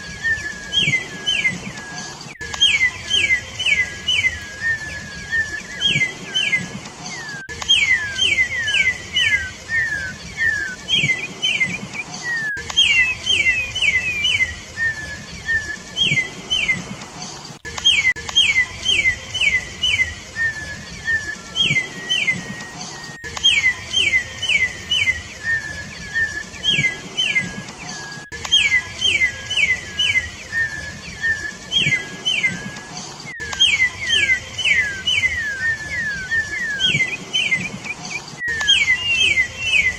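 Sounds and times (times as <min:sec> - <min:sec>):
bird singing whistled notes: 0:00.0 - 0:17.0, 0:17.6 - 0:39.9.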